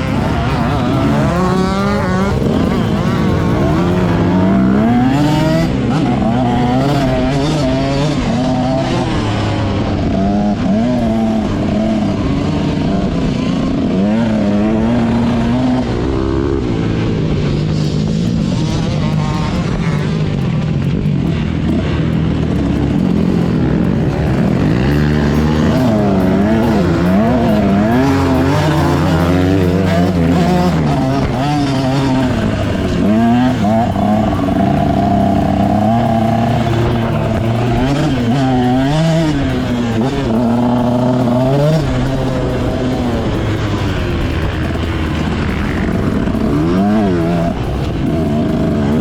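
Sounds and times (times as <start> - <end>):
motocross bike engine revving: 0.0 - 49.0.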